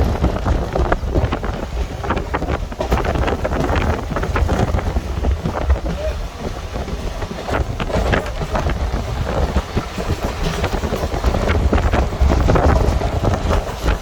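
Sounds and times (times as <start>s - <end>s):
moving train rumble: 0.0s - 14.0s
wind buffeting microphone: 0.0s - 14.0s.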